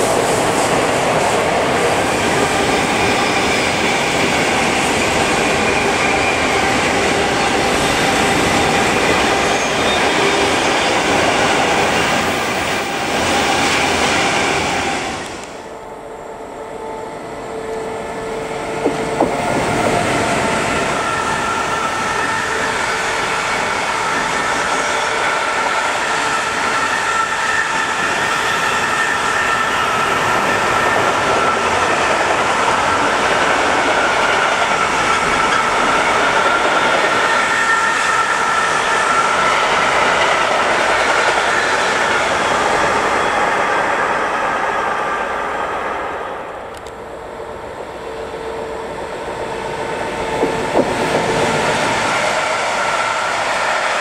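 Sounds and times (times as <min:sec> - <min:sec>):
clicks from passing train: 0:00.0 - 0:15.7, 0:17.7 - 0:44.4, 0:46.6 - 0:47.1, 0:49.8 - 0:54.0
train wheel and rail noise: 0:00.0 - 0:54.0.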